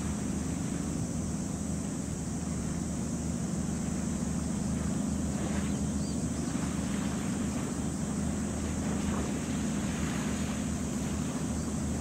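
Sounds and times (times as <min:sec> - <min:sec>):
ship engine drone: 0:00.0 - 0:12.0
water noise: 0:00.0 - 0:12.0
wind: 0:00.0 - 0:12.0.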